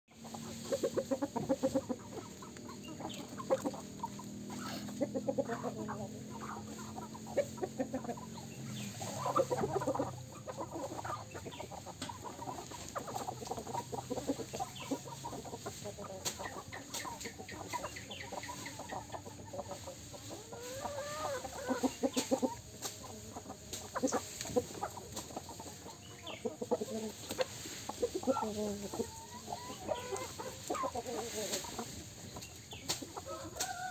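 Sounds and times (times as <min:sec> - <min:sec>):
chickens clucking: 0:00.1 - 0:33.9
chicken rising and falling calls: 0:00.2 - 0:33.9.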